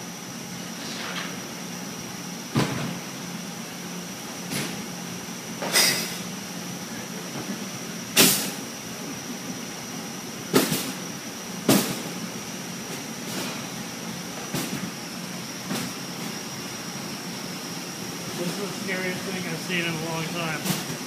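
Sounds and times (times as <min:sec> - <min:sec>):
dishwasher humming and whining: 0:00.0 - 0:21.0.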